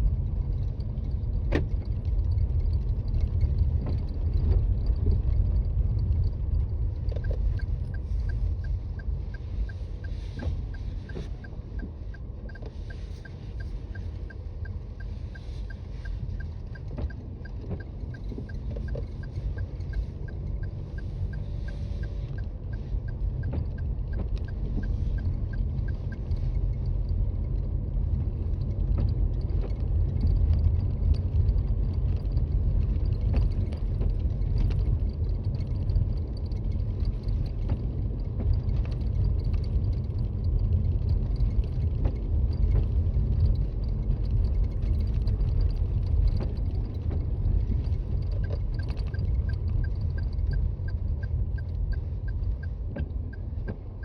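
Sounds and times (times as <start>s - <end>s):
faint clicks and creaks: 0.0s - 54.0s
light regular ticking: 0.0s - 54.0s
tyre and road rumble: 0.0s - 54.0s.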